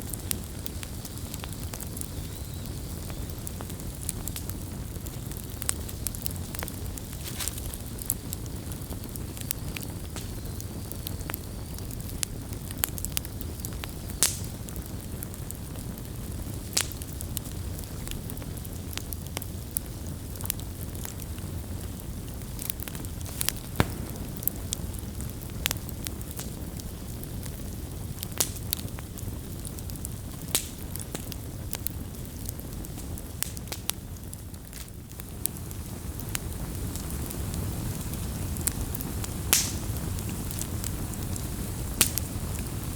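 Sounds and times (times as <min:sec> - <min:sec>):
campfire crackling and popping: 0:00.0 - 0:42.9
low rumble of flames: 0:00.0 - 0:42.9.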